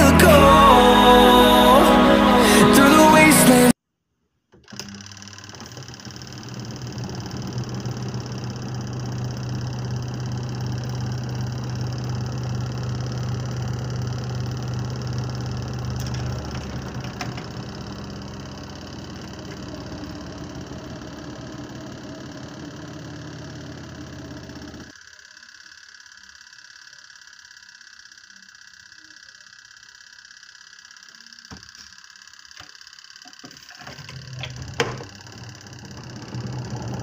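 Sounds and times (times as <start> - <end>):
washing machine spin motor humming: 4.6 - 37.0.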